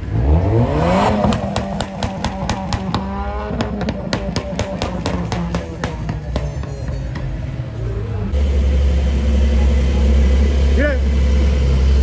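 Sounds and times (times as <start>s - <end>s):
car engines pulling away: 0.0s - 12.0s.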